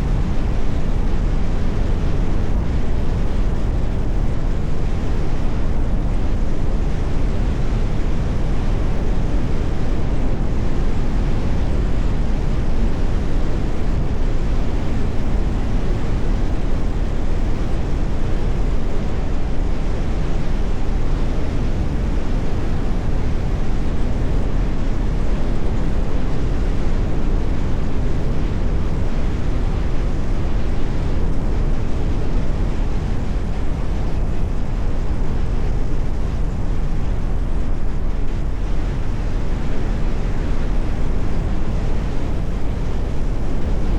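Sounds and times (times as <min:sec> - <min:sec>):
road and tyre noise: 0:00.0 - 0:43.9
wind on microphone: 0:00.0 - 0:43.9.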